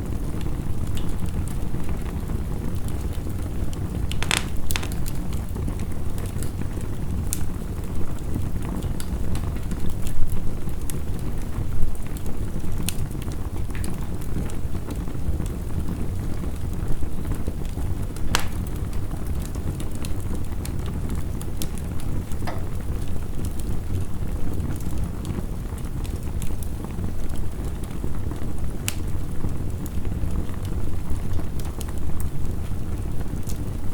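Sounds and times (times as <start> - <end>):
heavy rain rumble: 0.0 - 33.9
wood fire crackling and popping: 0.0 - 33.9.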